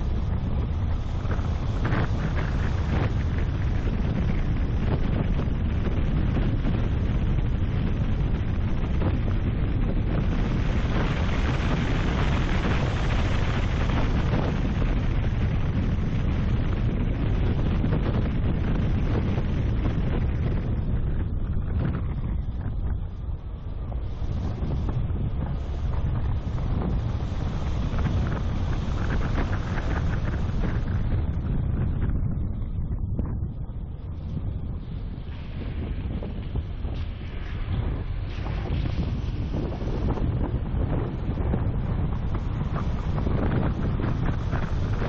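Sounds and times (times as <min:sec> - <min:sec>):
car road and engine noise: 0:00.0 - 0:45.0
wind buffeting microphone: 0:00.0 - 0:45.0.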